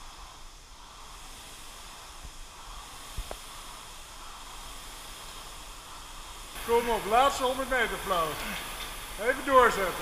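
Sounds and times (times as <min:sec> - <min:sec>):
rowing machine flywheels whooshing: 0:00.0 - 0:10.0.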